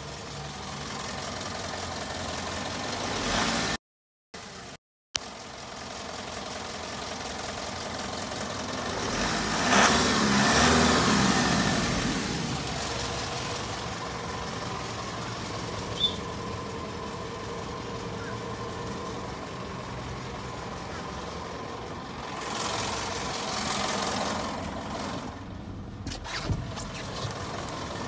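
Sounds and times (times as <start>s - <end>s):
vehicle engine hum: 0.0s - 3.8s, 4.4s - 28.0s.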